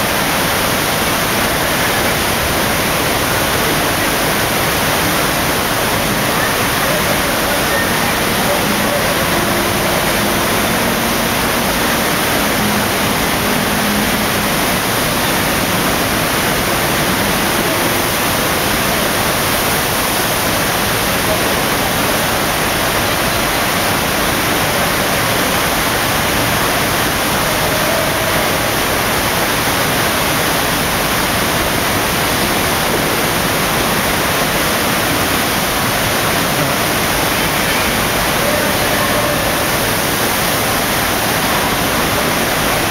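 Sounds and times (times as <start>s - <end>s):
loud rush of water: 0.0s - 42.9s.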